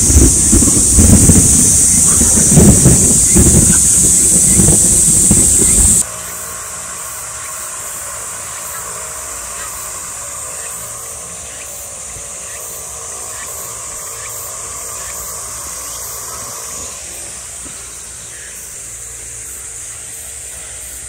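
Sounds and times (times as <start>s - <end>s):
high pulsing chirping: 0.0s - 21.0s
insect chorus: 0.0s - 21.0s.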